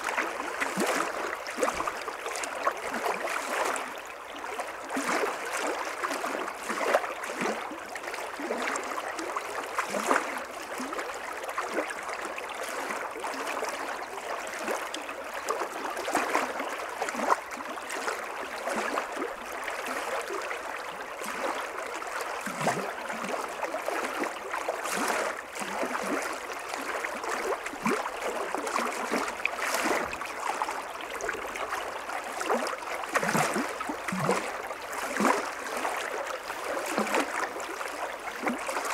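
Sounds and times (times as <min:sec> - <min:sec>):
stream flowing over riffle: 0:00.0 - 0:38.9.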